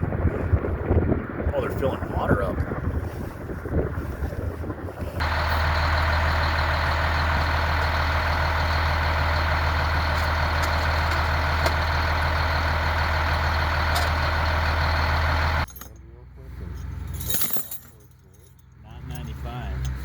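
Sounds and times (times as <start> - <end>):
large vehicle engine hum: 0.0 - 17.4, 18.0 - 20.0
heavy road noise: 0.0 - 20.0.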